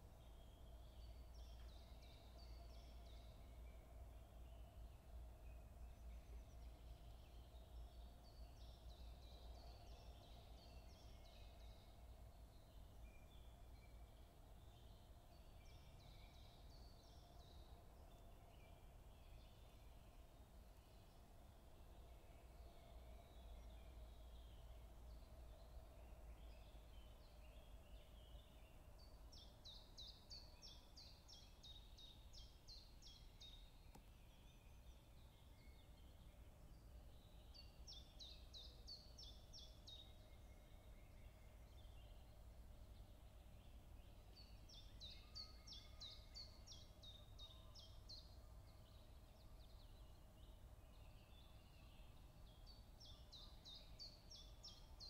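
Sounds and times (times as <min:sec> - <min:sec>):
woodland background hum: 0:00.0 - 0:55.0.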